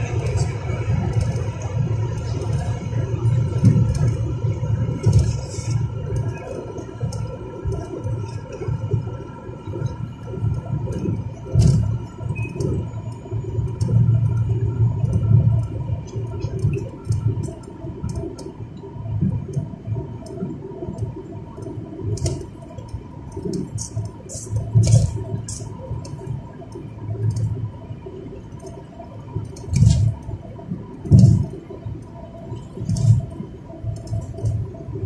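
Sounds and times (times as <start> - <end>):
car road rumble: 0.0 - 35.0
thin steady whine: 0.0 - 35.0.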